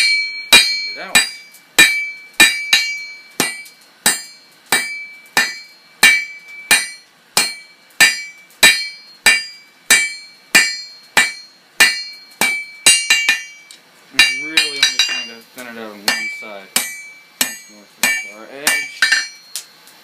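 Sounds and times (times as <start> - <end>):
hammer striking steel on anvil: 0.0 - 15.4, 16.0 - 19.7.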